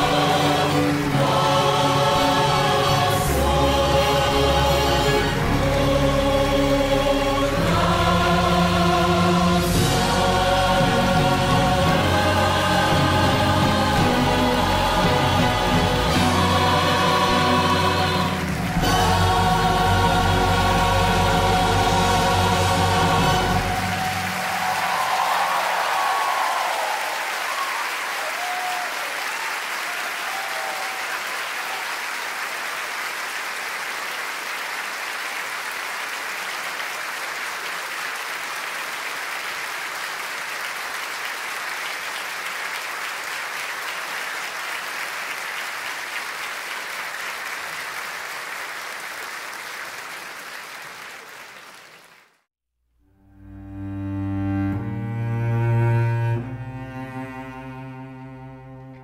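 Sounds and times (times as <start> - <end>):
audience applauding: 0.0 - 52.5.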